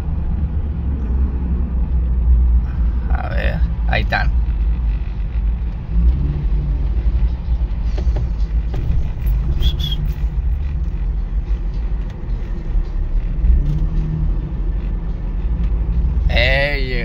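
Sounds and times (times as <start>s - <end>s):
vehicle cabin rumble: 0.0s - 17.0s.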